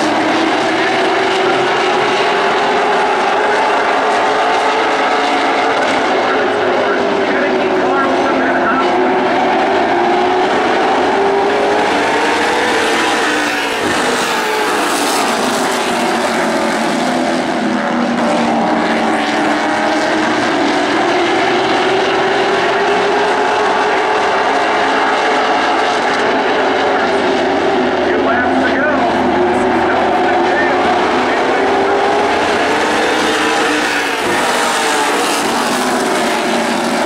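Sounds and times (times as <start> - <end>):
stock cars racing: 0.0 - 37.0.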